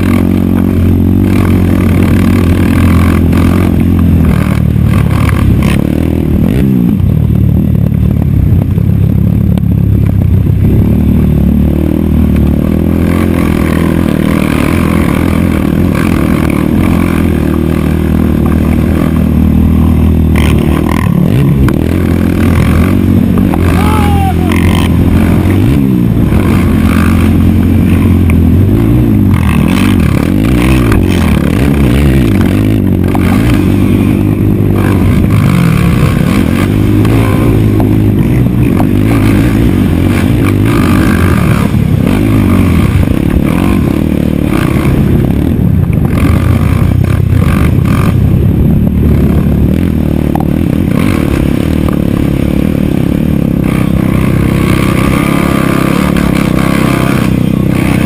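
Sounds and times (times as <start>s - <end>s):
racing quad engine revving: 0.0s - 58.0s.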